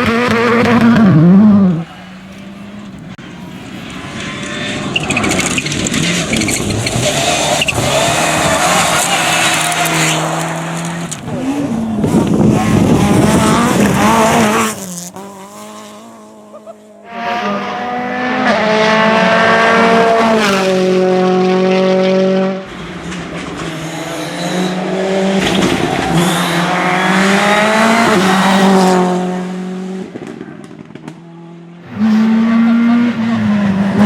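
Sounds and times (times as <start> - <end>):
rally car engines revving past: 0.0 - 34.0.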